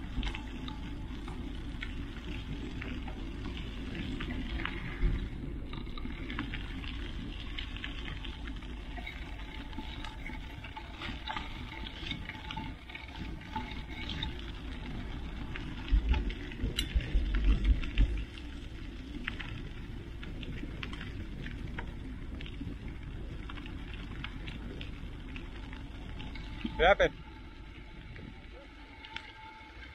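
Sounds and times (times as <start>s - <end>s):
bike tyres crunching on gravel: 0.0s - 28.0s.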